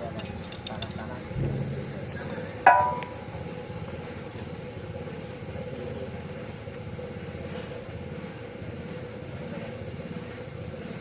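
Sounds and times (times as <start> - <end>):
diesel engine pulsing rumble: 0.0 - 11.0
steady hum: 0.0 - 11.0.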